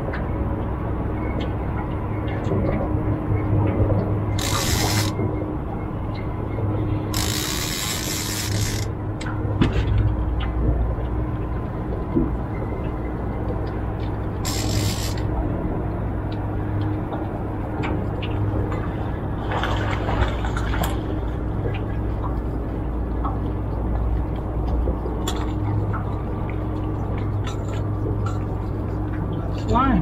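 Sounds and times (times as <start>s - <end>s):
water noise: 0.0s - 30.0s
wind: 0.0s - 30.0s
boat motor running: 3.7s - 30.0s.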